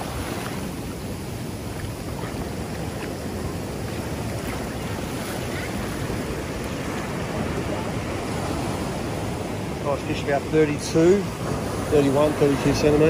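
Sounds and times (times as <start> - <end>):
waves breaking over sand: 0.0 - 13.0.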